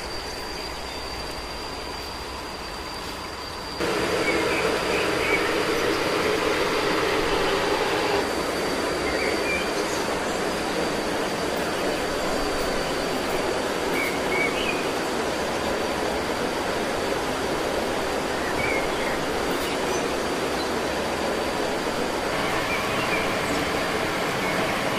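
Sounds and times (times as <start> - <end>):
high constant whine: 0.0 - 24.9
rushing outdoor noise: 0.0 - 24.9.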